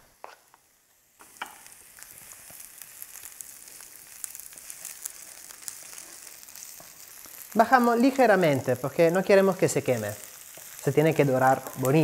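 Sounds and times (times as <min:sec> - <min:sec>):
onion sizzling in a frying pan: 0:00.0 - 0:12.0.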